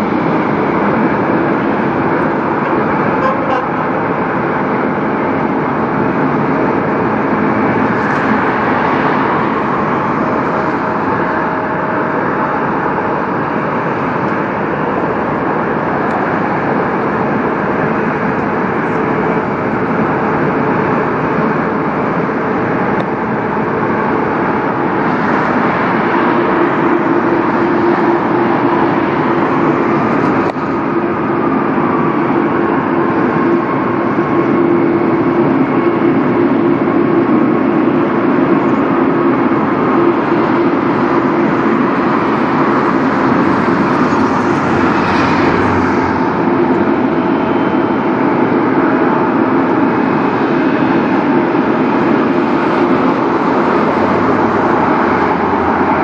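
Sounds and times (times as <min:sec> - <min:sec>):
jet engines rumbling: 0:00.0 - 0:56.0
steady droning tone: 0:00.0 - 0:56.0.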